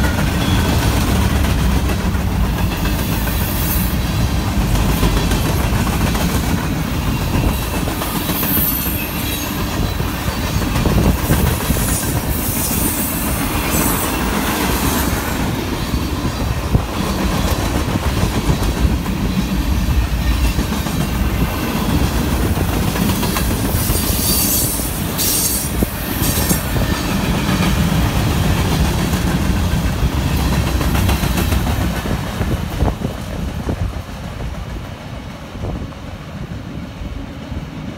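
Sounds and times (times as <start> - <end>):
clickety-clack over rail joints: 0.0 - 36.6
train wheels rumbling on rails: 0.0 - 37.9.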